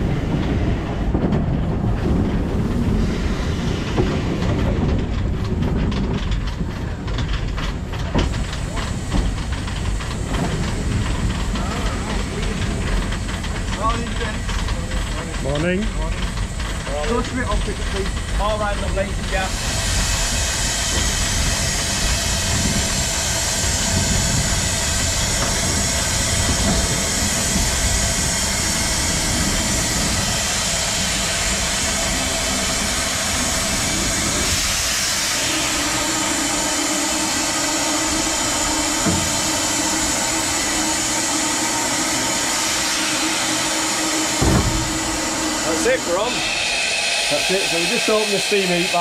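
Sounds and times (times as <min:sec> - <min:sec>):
steam hissing: 0:02.0 - 0:04.9, 0:08.1 - 0:49.0.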